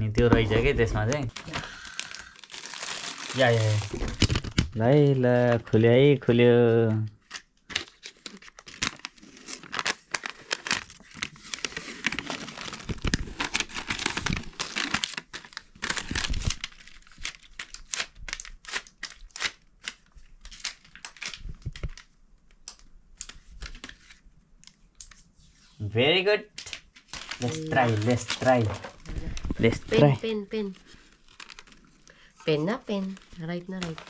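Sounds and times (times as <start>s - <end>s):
packaging crinkling and tearing: 0.5s - 5.6s, 7.2s - 25.2s, 26.6s - 34.0s.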